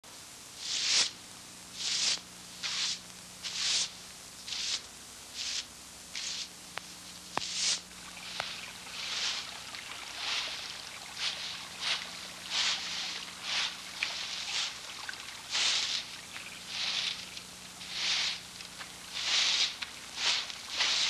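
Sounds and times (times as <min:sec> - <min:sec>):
brooms sweeping stone paving: 0:00.6 - 0:01.1, 0:01.8 - 0:06.5, 0:07.4 - 0:21.0.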